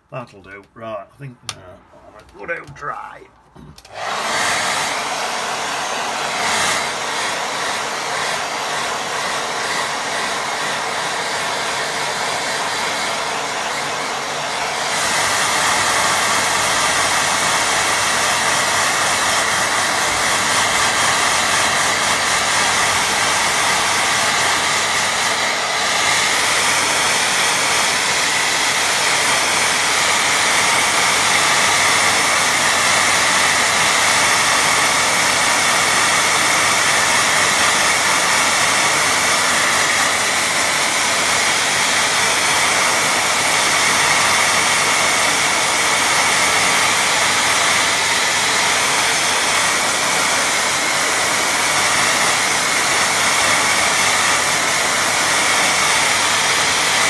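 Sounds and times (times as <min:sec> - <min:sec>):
hair dryer blowing: 0:02.3 - 0:57.0.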